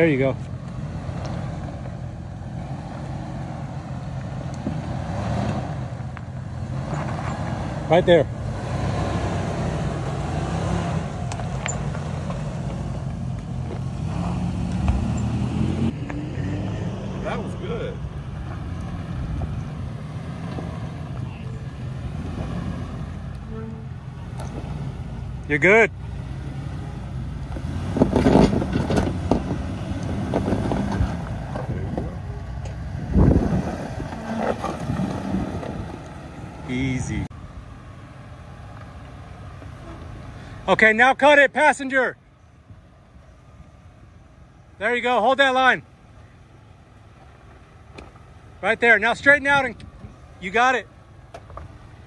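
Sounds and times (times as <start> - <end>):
suv engine running at low revs: 0.0 - 52.0.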